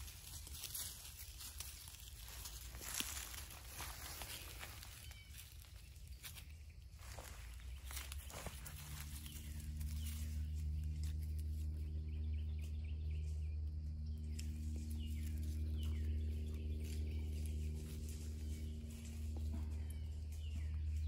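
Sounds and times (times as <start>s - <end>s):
dog paws in dry pine needles: 0.0s - 13.4s, 14.0s - 21.0s
steady low hum: 0.0s - 21.0s.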